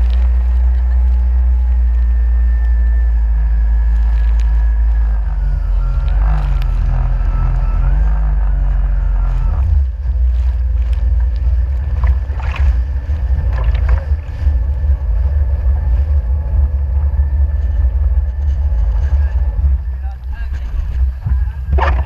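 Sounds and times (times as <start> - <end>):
jet ski running: 0.0 - 22.0
wind buffeting microphone: 0.0 - 22.0.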